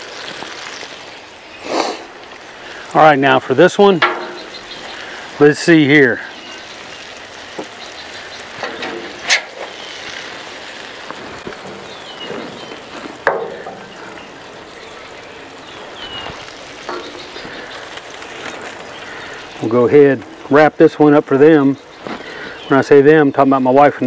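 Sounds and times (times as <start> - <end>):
food sizzling on a griddle: 0.0 - 24.0.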